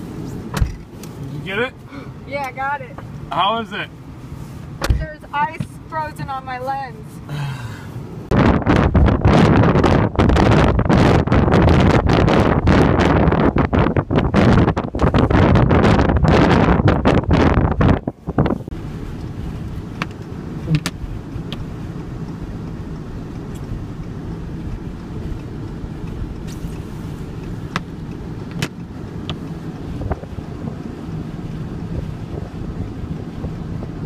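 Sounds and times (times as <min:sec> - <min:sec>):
vehicle driving rumble: 0:00.0 - 0:34.0
blizzard wind: 0:04.0 - 0:34.0.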